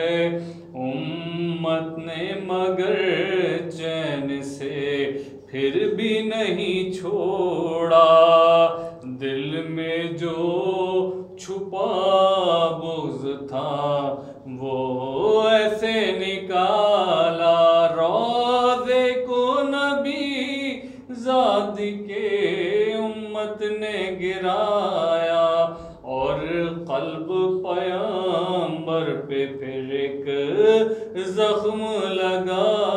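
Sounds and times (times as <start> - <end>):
person chanting: 0.0 - 32.9.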